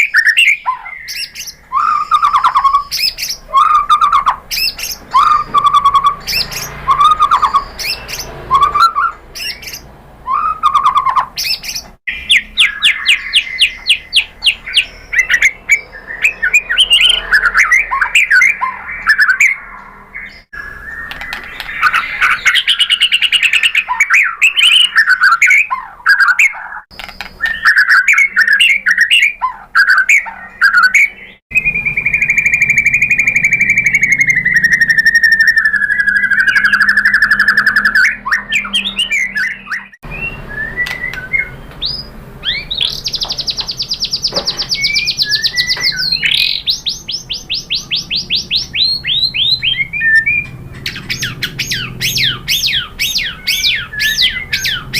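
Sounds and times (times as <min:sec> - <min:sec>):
bird singing whistles and trills: 0:00.0 - 0:54.9.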